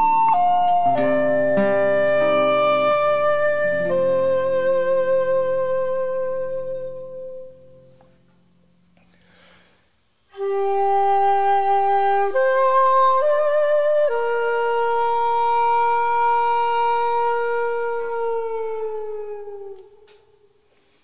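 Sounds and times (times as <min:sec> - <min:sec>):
bamboo flute solo: 0:00.0 - 0:08.2, 0:10.3 - 0:20.6.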